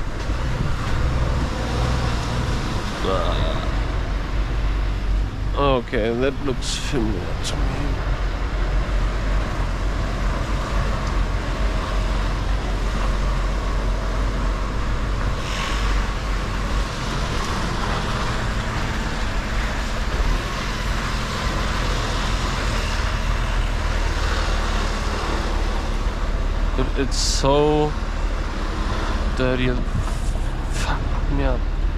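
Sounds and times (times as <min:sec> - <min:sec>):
truck diesel engine rumbling: 0:00.0 - 0:31.9
tyre and road noise: 0:00.0 - 0:31.9.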